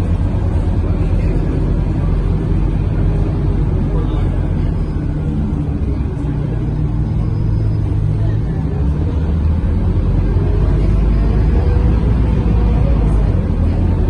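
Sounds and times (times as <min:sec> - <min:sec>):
bus engine droning: 0:00.0 - 0:14.0
road and cabin noise: 0:00.0 - 0:14.0.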